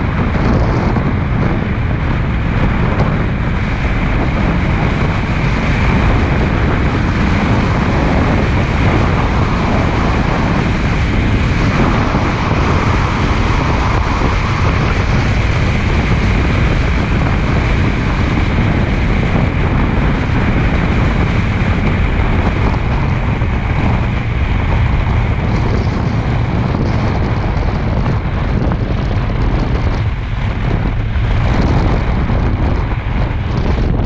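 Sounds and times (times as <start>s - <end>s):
vehicle engine: 0.0s - 34.0s
wind buffeting microphone: 0.0s - 34.0s.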